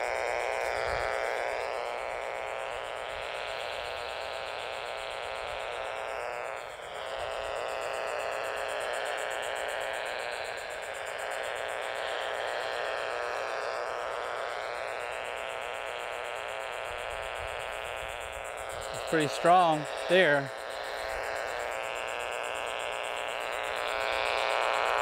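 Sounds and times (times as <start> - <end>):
buzzing radio static: 0.0 - 25.0.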